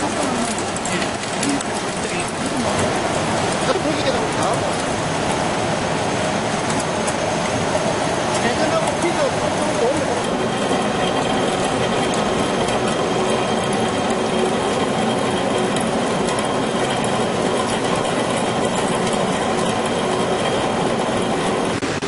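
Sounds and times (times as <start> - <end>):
machinery rattling: 0.0 - 22.0.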